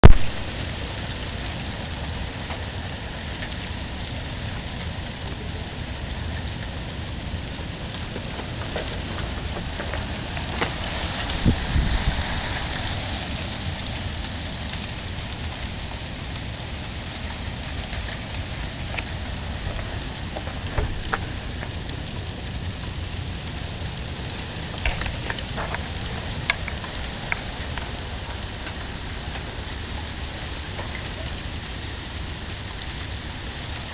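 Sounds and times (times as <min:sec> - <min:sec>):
sleet and freezing rain falling: 0:00.0 - 0:33.9.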